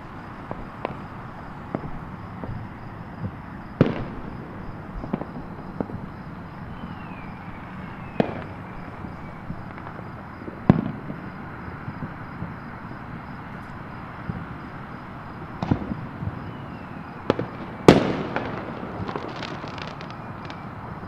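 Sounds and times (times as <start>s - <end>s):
distant fireworks bangs: 0.0s - 21.0s.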